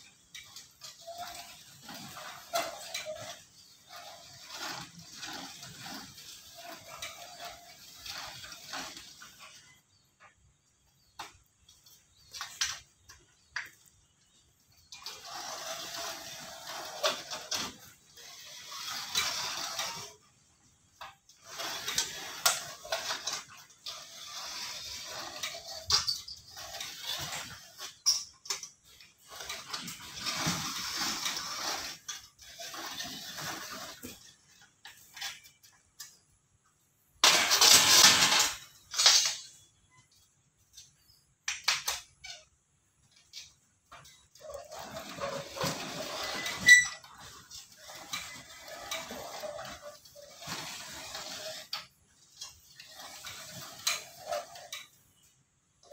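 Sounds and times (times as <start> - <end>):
metal sheet rolling and scraping: 0.0 - 36.4, 37.0 - 55.9.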